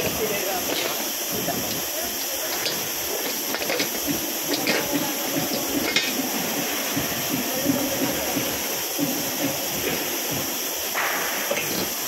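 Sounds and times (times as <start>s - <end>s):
steady hissing: 0.0s - 12.0s.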